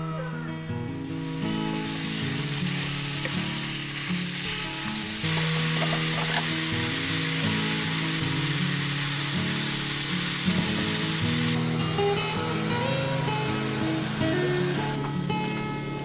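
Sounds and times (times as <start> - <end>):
background music low notes: 0.0 - 16.0
meat sizzling in a frying pan: 1.0 - 15.0.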